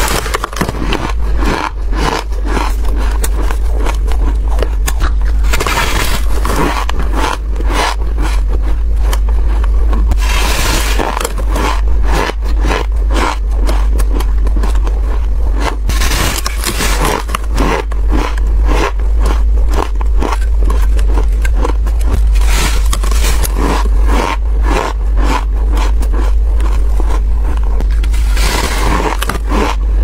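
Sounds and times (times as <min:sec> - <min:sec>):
chewing frost crunching: 0:00.0 - 0:30.0
steady low hum: 0:00.0 - 0:30.0.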